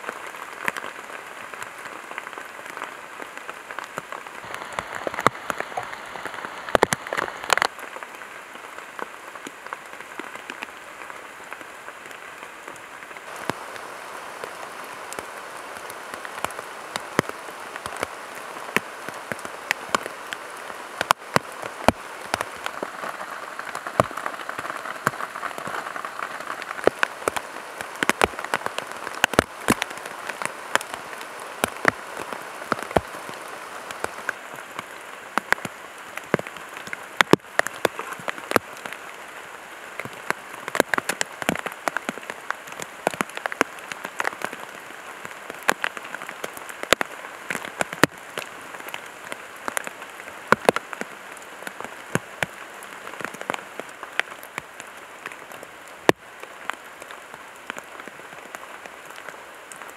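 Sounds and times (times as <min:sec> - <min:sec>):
rain on plastic sheeting: 0:00.0 - 0:59.9.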